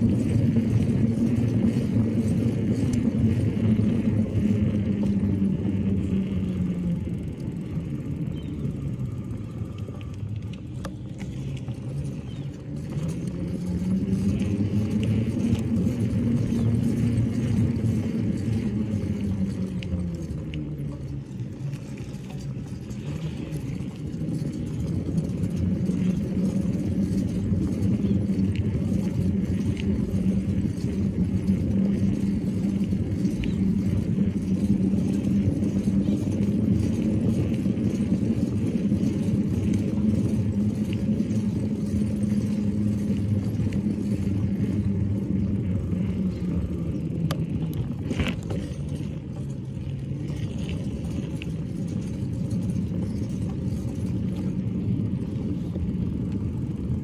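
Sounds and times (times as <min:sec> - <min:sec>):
bike rolling on concrete: 0:00.0 - 0:57.0.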